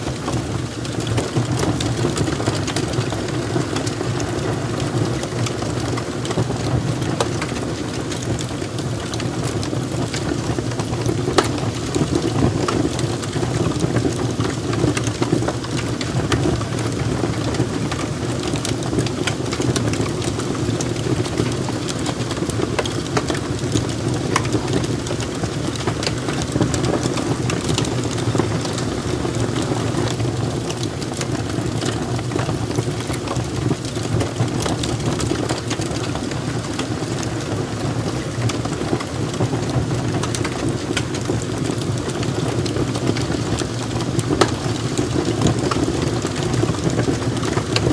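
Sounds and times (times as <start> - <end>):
fire crackling and popping: 0.0 - 47.9
log fire burning: 0.0 - 47.9.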